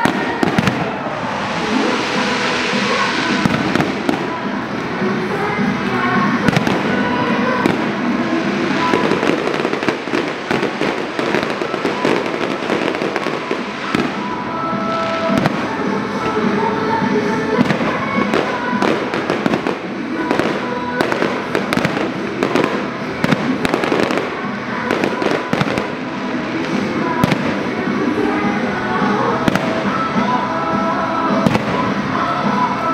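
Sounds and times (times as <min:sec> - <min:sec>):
fireworks launching and bursting: 0:00.0 - 0:32.9.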